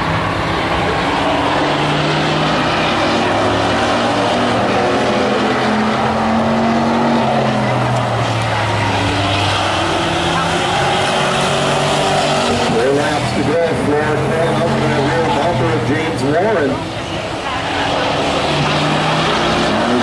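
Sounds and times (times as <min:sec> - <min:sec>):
race car engines running hard: 0:00.0 - 0:20.0.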